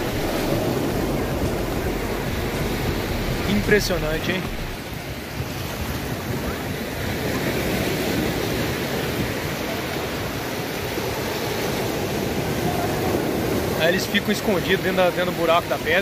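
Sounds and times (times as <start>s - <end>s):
sea surf washing ashore: 0.0s - 16.0s.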